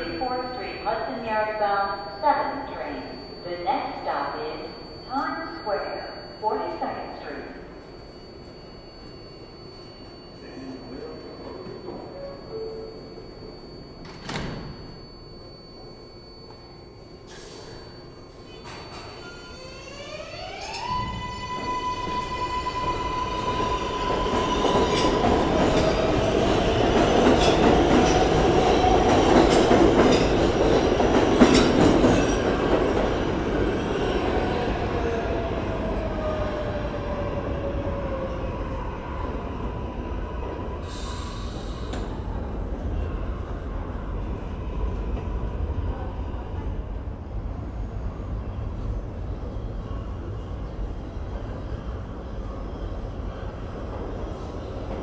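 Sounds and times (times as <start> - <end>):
subway train motors whining: 0.0 - 55.0.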